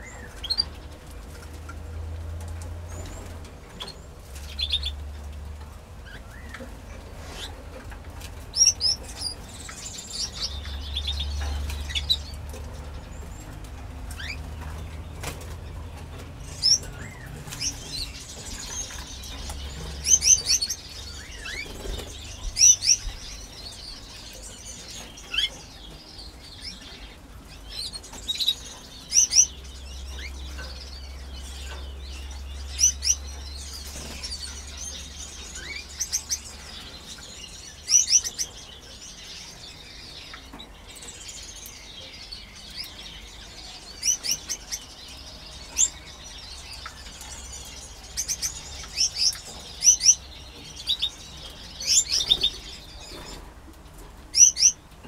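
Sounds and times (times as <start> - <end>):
canaries chirping: 0.0 - 55.0.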